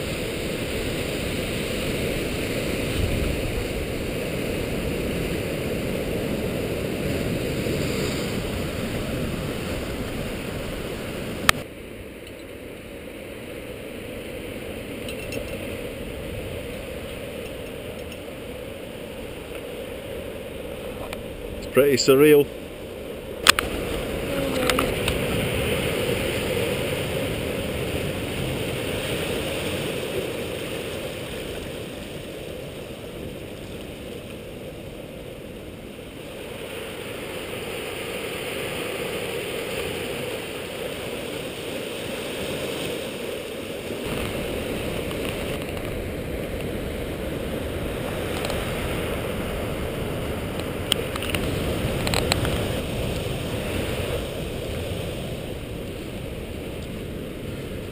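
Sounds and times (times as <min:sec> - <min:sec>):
sea water washing among rocks: 0:00.0 - 0:11.7, 0:15.6 - 0:57.9.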